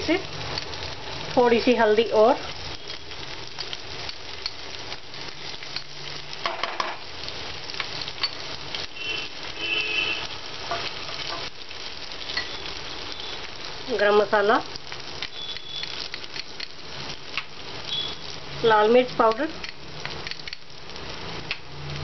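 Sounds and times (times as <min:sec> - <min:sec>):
onions and spices sizzling in oil: 0:00.0 - 0:22.0.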